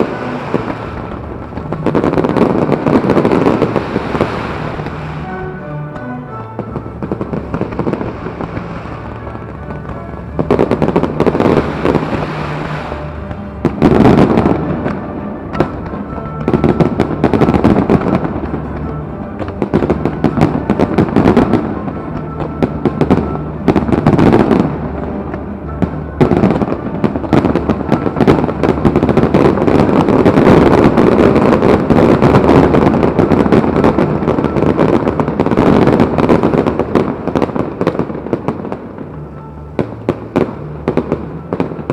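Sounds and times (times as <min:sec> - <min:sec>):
fireworks bursting: 0:00.0 - 0:41.9
music playing: 0:00.0 - 0:41.9.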